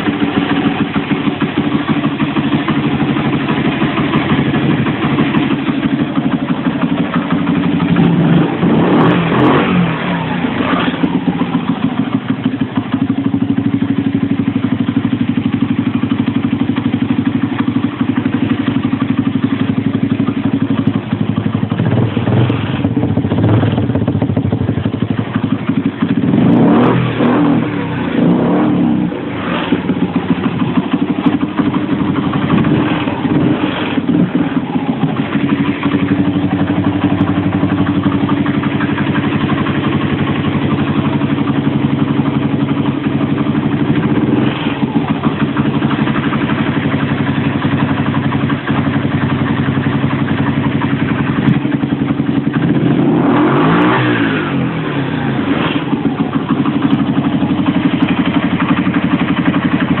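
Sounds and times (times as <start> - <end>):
small motorbike engine idling: 0.0 - 60.0.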